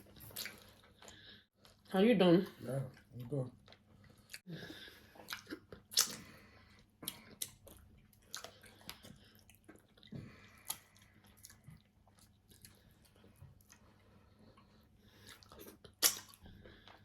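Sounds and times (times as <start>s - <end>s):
person chewing and mouth smacking: 0.0s - 1.9s, 2.9s - 17.0s.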